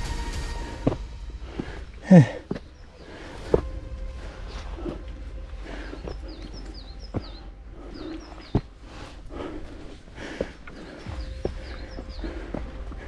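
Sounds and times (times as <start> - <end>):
footsteps: 0.0 - 13.0
songbird chirping: 0.0 - 13.0.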